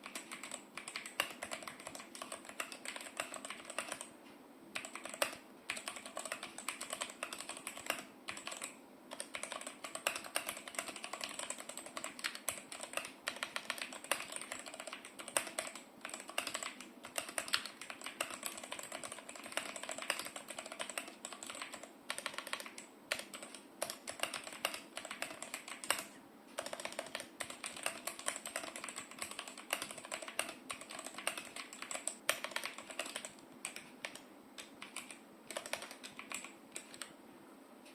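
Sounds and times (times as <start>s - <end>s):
mechanical keyboard typing: 0.0s - 4.1s, 4.8s - 37.1s.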